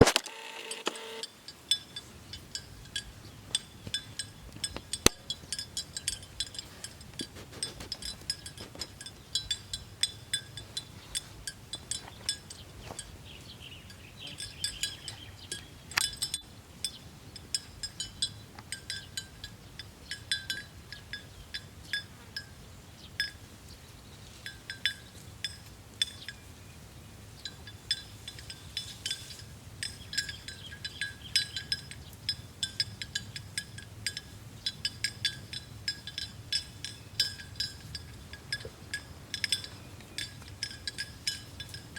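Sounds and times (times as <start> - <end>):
cow bells clanking: 1.1 - 23.6, 24.3 - 41.9.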